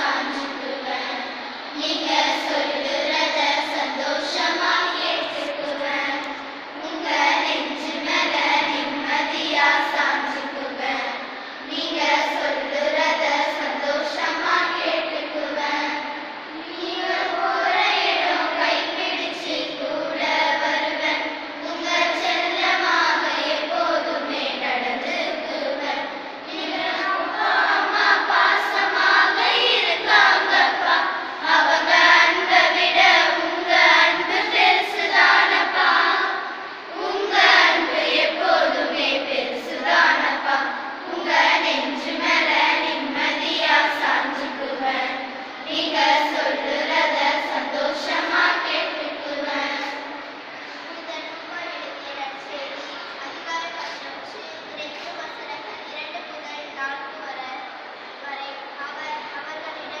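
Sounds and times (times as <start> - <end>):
girls singing a hymn: 0.0 - 50.9.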